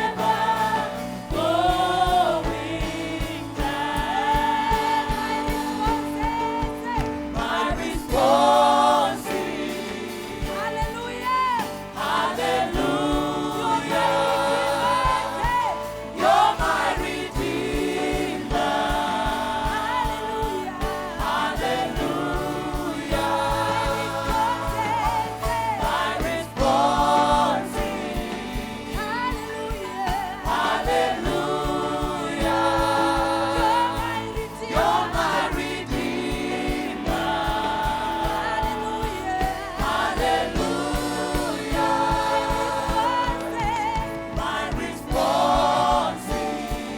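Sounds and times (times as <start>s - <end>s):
choir singing gospel song: 0.0s - 46.9s.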